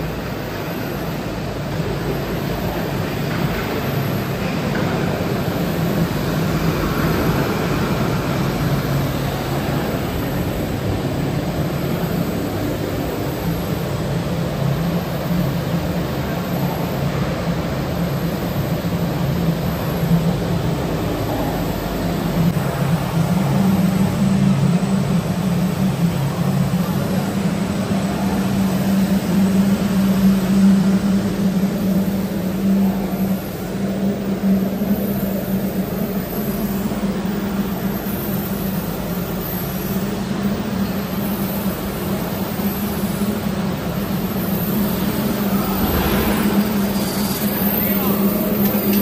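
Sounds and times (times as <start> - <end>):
furnace machinery drone: 0.0 - 49.0
low hum of blower machinery: 0.0 - 49.0.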